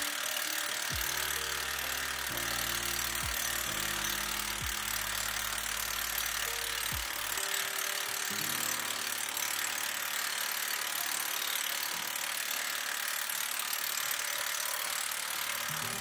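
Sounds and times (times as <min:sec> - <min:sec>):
ratchet pawls clicking: 0:00.0 - 0:16.0.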